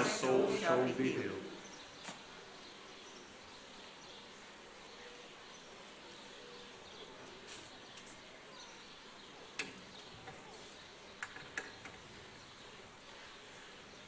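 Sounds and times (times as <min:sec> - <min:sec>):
open-air background hiss: 0:00.0 - 0:14.0.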